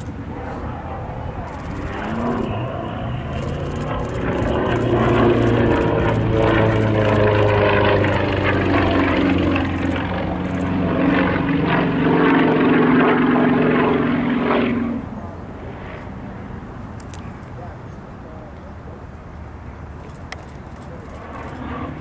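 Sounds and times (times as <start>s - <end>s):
plane radial engine and propeller: 0.0s - 22.0s.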